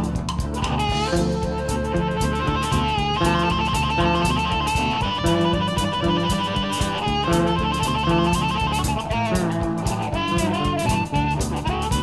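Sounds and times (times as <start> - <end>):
guitar-led rock music: 0.0 - 12.0.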